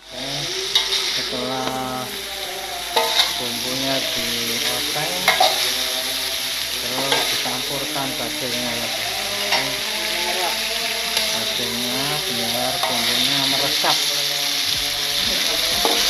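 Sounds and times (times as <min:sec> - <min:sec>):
spice paste sizzling in a wok: 0:00.5 - 0:16.0.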